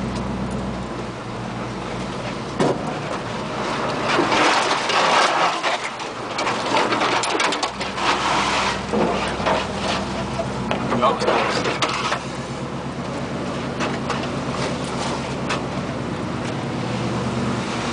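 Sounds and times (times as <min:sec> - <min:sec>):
brush crackling against truck: 0:00.0 - 0:17.9
truck engine humming: 0:00.0 - 0:17.9
tyres crunching on gravel: 0:01.5 - 0:17.9.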